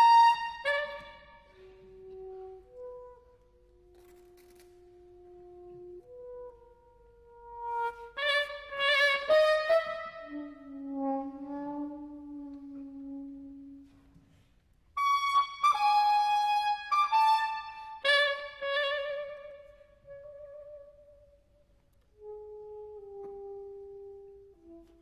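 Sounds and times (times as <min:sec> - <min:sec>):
soprano saxophone playing solo: 0:00.0 - 0:14.1, 0:15.0 - 0:25.0.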